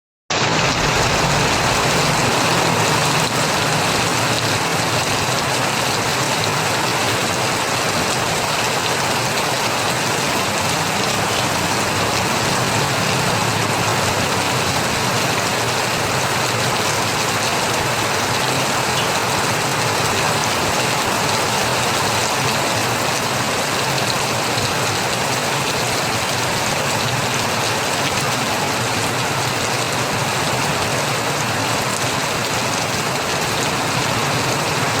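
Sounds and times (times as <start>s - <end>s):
heavy rain pattering: 0.3s - 35.0s.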